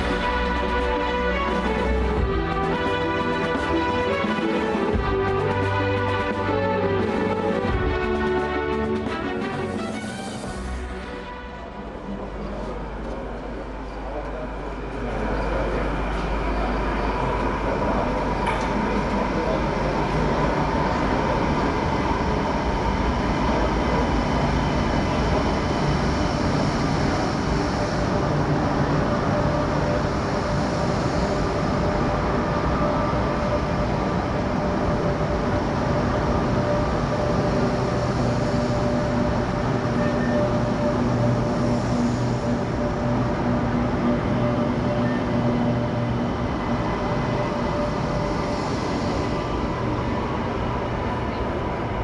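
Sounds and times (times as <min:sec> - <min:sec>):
rumble of train wheels on rail: 0:00.0 - 0:52.0.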